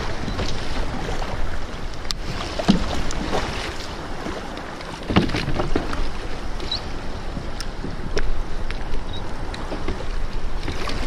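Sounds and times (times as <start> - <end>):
water splashing against kayak hull: 0.0 - 11.0
wind rumbling on microphone: 0.0 - 11.0.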